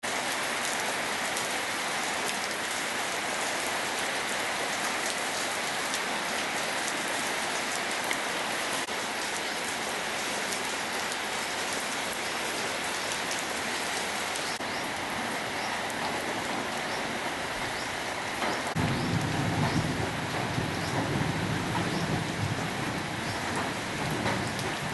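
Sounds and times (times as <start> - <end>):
rain falling steadily: 0.0 - 24.9.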